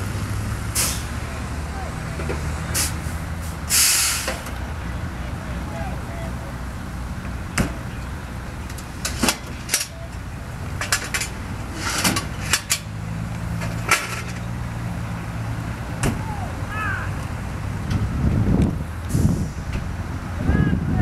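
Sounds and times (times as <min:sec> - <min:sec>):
fire engine pump rumbling: 0:00.0 - 0:21.0.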